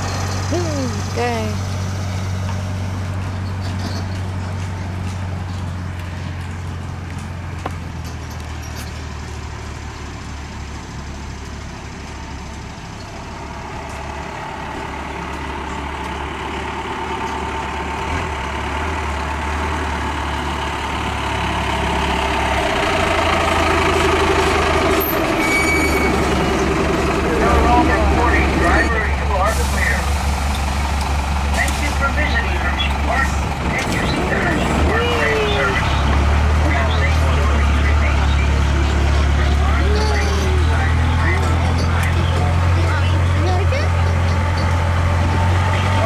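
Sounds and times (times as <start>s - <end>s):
tram engine droning: 0.0s - 46.0s.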